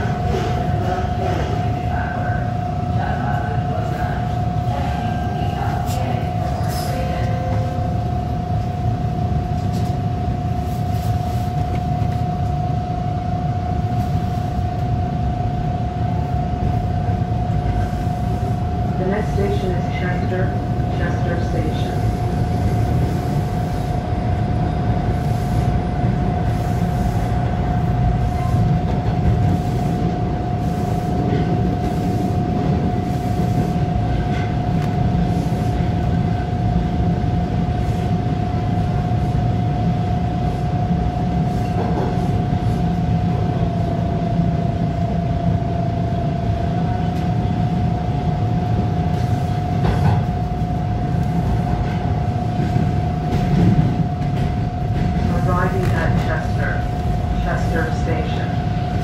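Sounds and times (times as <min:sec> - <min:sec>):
subway train rumbling in tunnel: 0:00.0 - 0:59.0.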